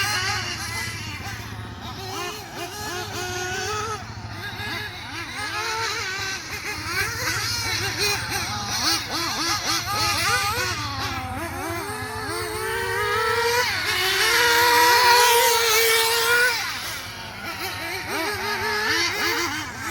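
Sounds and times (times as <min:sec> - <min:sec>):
model engine revving: 0:00.0 - 0:19.9.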